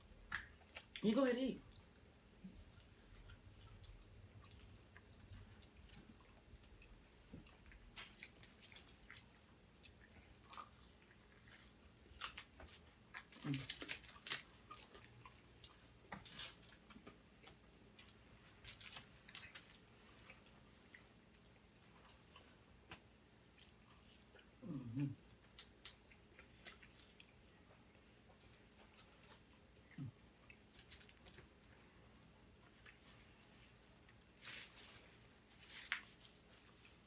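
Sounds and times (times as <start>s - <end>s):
person chewing food: 1.7s - 37.0s.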